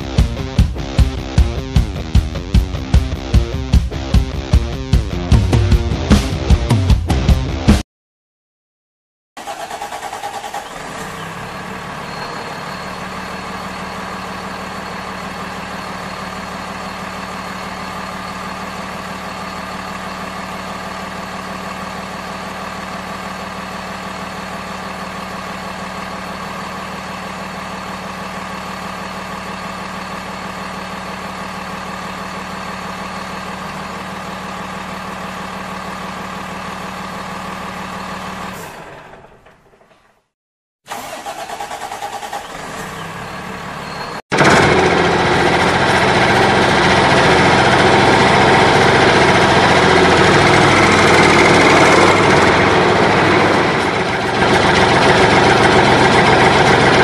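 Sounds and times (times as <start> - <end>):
truck engine idling: 9.4 - 40.2, 40.9 - 57.0.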